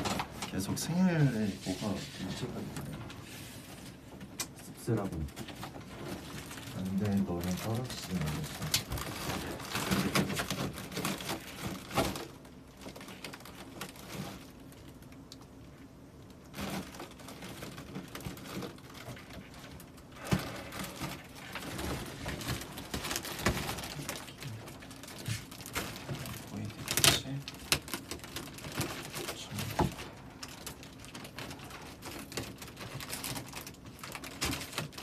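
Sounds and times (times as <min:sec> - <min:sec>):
rustling and crinkling: 0:00.0 - 0:35.0.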